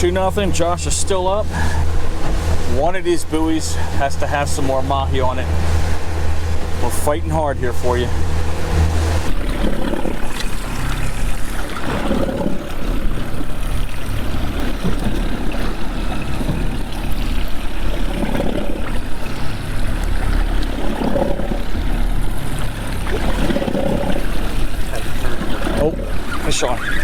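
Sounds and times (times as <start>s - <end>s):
boat engine idling: 0.0s - 27.0s
water sloshing against hull: 0.0s - 27.0s.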